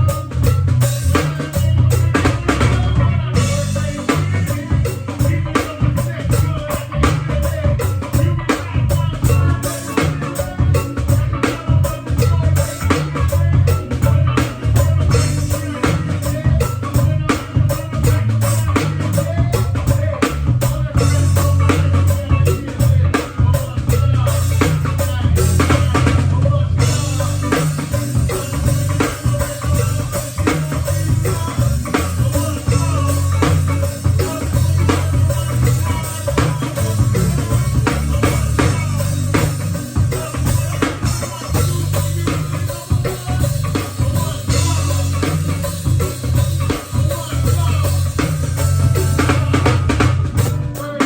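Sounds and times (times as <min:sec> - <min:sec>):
band playing music: 0:00.0 - 0:51.0
drum kit beat: 0:00.0 - 0:51.0
heavy bass line: 0:00.0 - 0:51.0.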